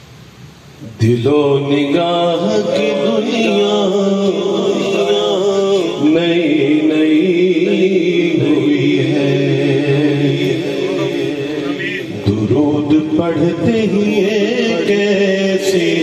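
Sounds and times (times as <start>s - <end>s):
man singing into microphone: 0.8s - 16.0s.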